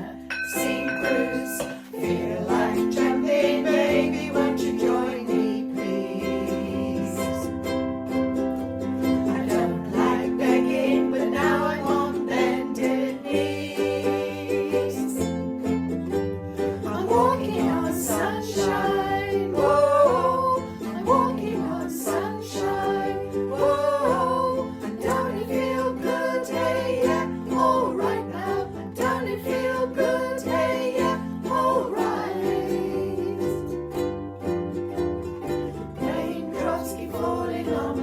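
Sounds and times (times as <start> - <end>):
ukulele song with bass: 0.0 - 38.0.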